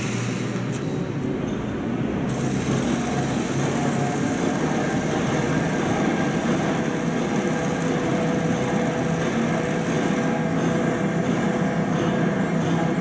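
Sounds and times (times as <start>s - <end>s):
large engine running: 1.8s - 13.0s.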